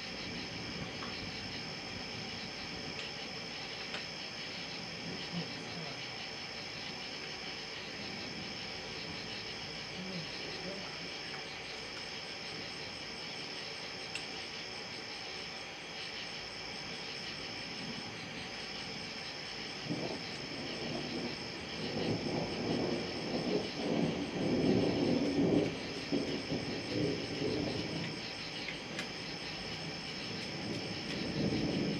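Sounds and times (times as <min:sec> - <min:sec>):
thunder rumbling: 0:00.0 - 0:14.9, 0:16.7 - 0:31.9
night insects chorus: 0:00.0 - 0:31.9.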